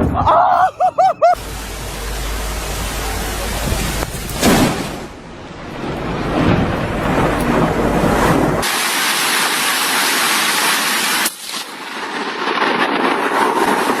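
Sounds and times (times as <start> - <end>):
storm hissing: 1.4 - 14.0.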